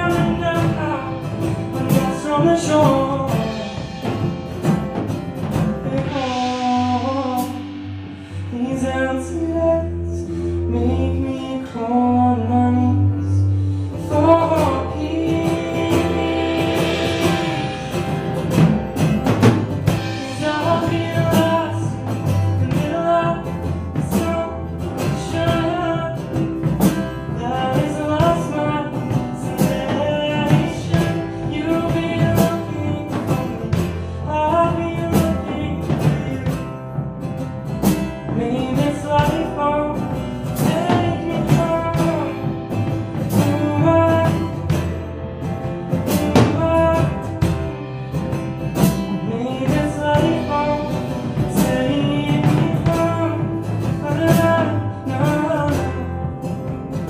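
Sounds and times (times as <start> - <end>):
acoustic guitar: 0.0 - 57.0
bass: 0.0 - 57.0
drum kit: 0.0 - 57.0.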